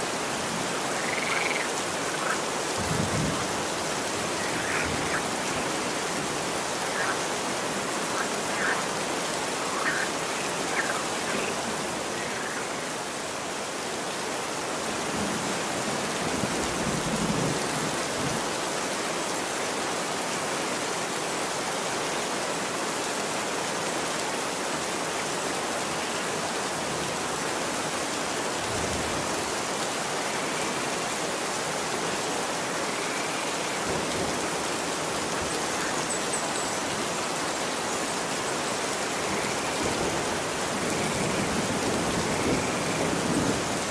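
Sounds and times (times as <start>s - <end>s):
rain falling on street: 0.0s - 43.9s.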